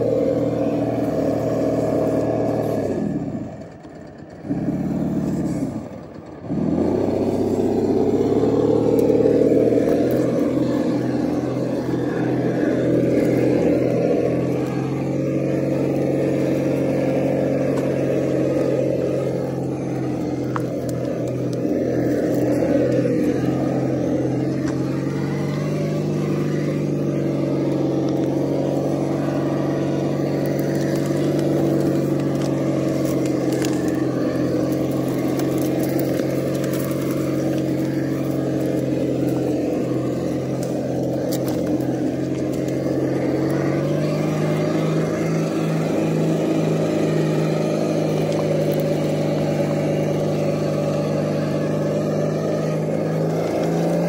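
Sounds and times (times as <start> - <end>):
simulated engine rumble: 0.0 - 54.0.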